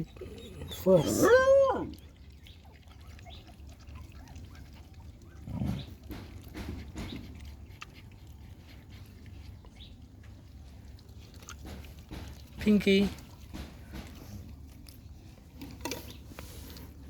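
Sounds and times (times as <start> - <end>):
puppies chewing: 0.0 - 17.0.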